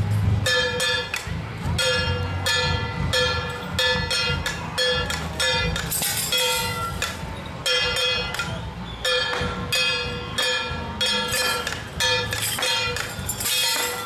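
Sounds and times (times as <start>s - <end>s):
metal percussion ringing: 0.4s - 14.0s.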